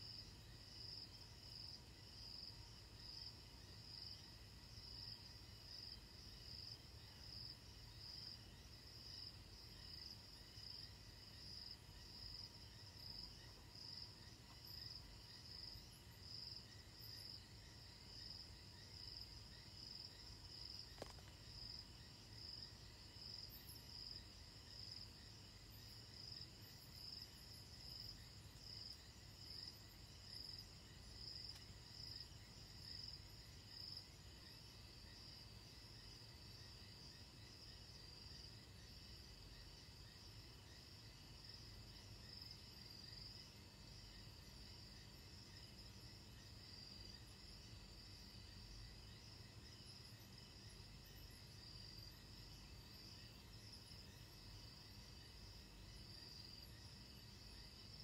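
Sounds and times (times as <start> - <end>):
night insects chirring: 0.0 - 58.0.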